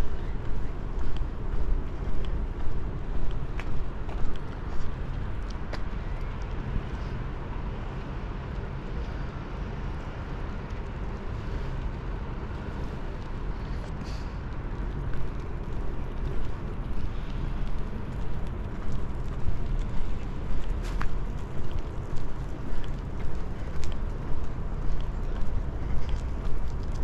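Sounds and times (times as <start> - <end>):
low rumble of noise: 0.0 - 27.0.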